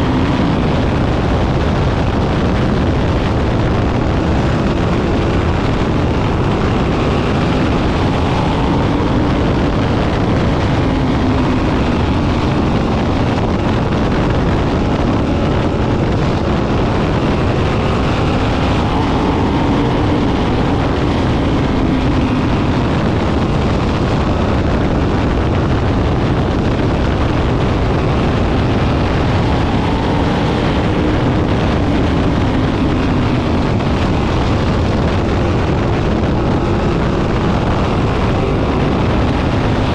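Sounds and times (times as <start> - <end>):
race car engines roaring: 0.0 - 39.9.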